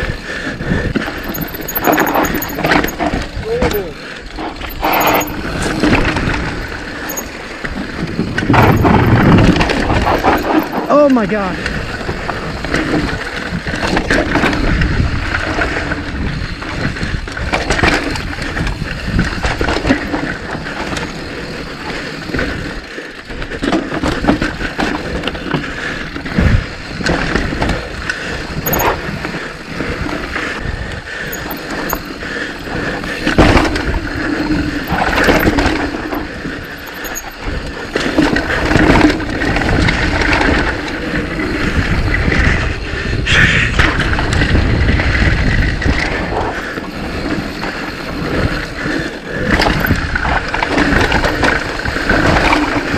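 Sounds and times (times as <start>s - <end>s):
bike rattling over bumps: 0.0s - 52.9s
bike tyres rolling on trail: 0.0s - 52.9s.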